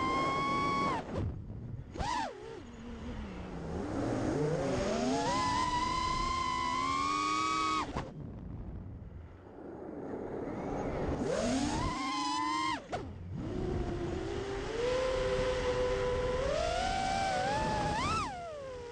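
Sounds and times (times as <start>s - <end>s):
quadcopter motors whining: 0.0s - 1.2s, 1.9s - 8.1s, 10.4s - 18.9s.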